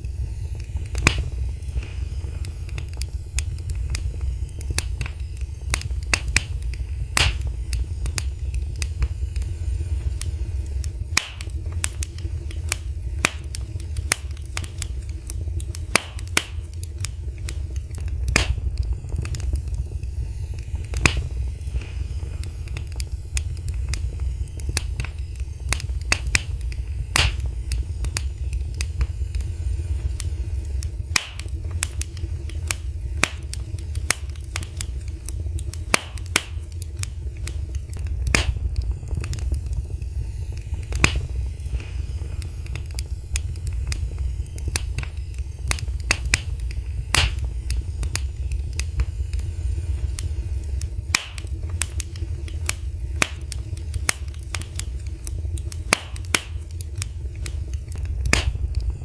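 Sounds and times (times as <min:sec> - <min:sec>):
low rumble of flames: 0:00.0 - 0:59.0
wood crackling and popping: 0:00.0 - 0:59.0.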